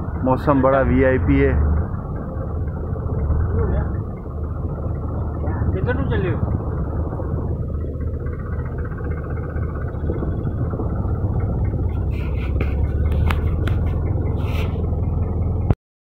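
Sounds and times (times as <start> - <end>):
boat engine droning: 0.0 - 15.8.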